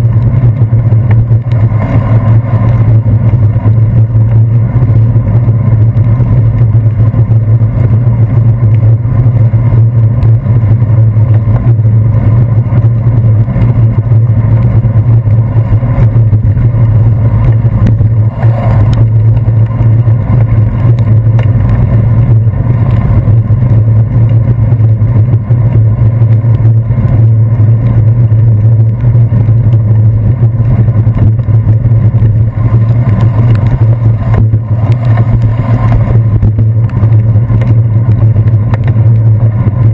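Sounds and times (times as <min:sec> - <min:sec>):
bicycle rumble on wet street: 0:00.0 - 0:39.9
wind buffeting microphone: 0:00.0 - 0:39.9.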